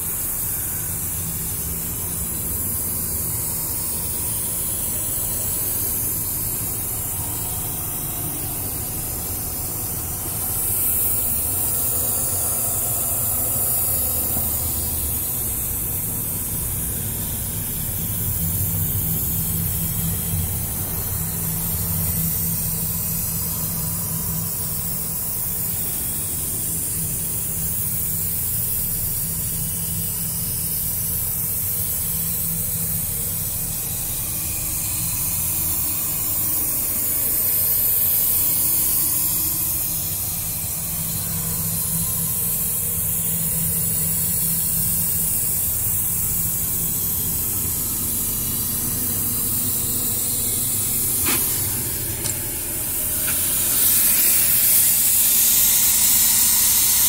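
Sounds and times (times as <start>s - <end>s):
low steady hum: 0.0s - 57.0s
steady hiss: 0.0s - 57.0s.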